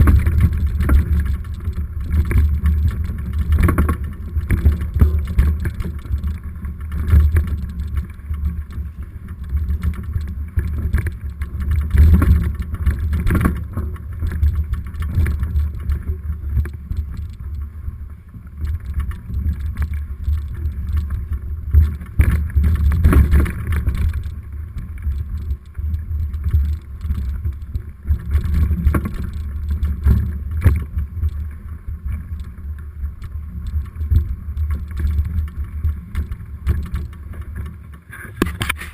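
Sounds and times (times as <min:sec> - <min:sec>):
bike knocks and clatters: 0:00.0 - 0:38.9
bike riding rumble: 0:00.0 - 0:38.9
wind: 0:00.0 - 0:38.9.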